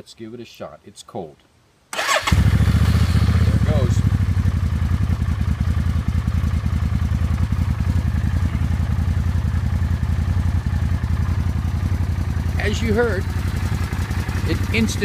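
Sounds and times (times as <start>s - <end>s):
motorcycle engine idling: 2.0s - 15.0s.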